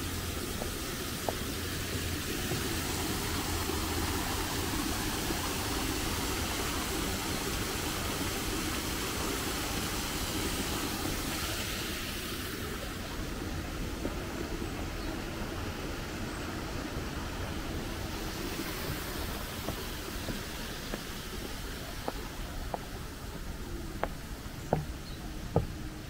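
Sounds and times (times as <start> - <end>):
waterfall splashing: 0.0 - 26.0.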